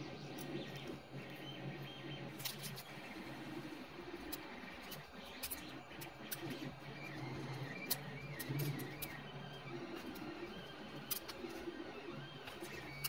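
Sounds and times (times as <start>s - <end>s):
three d printer humming: 0.0s - 13.0s.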